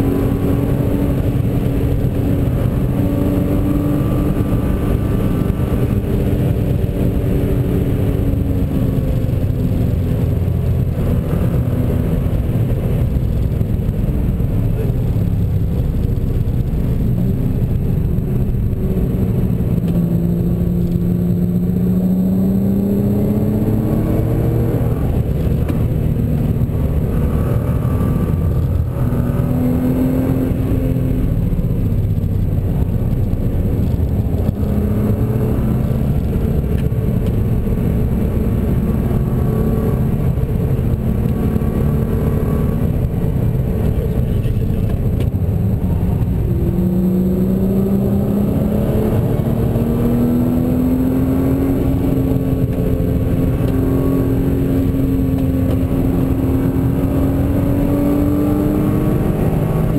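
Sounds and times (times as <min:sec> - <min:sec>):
car engine revving: 0:00.0 - 0:59.9
road and wind rumble: 0:00.0 - 0:59.9.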